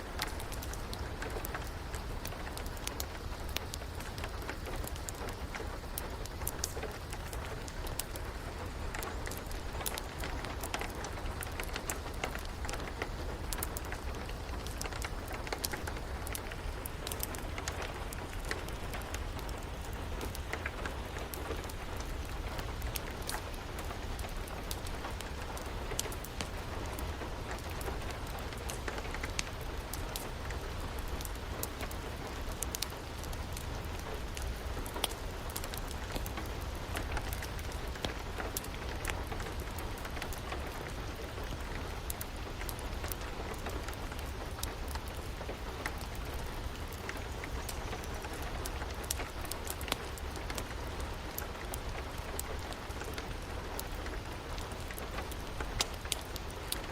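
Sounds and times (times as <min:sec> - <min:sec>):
rain hiss: 0:00.0 - 0:56.9
wood fire crackling: 0:00.0 - 0:56.9.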